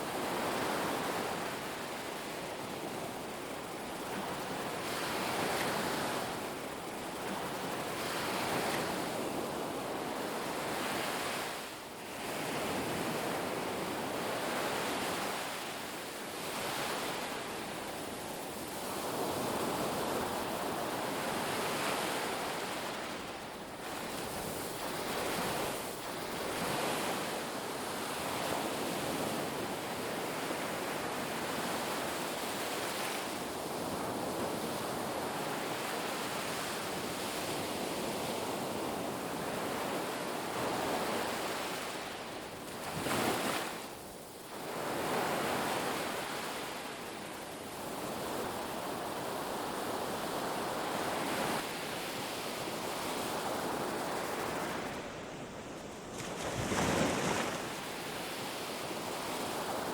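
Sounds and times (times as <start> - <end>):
ocean surf washing on beach: 0.0 - 59.9.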